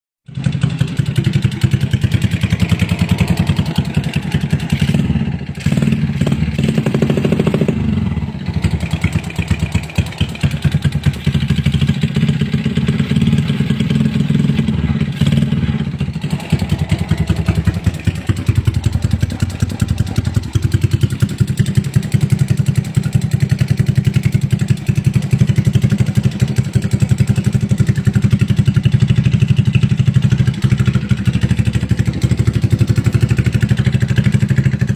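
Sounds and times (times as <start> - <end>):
motorcycle engine running loud: 0.3 - 34.9.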